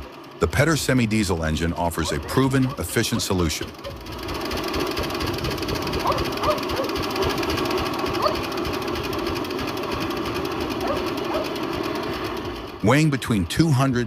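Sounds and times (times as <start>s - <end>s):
stationary engine running: 0.0s - 14.0s.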